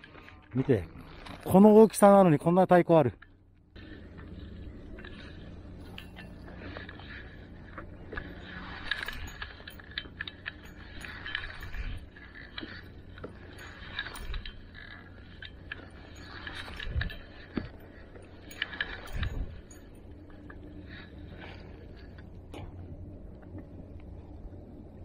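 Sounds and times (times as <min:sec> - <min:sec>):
light clicks and clinks: 0:00.0 - 0:24.1
wind rumbling on microphone: 0:03.8 - 0:25.0.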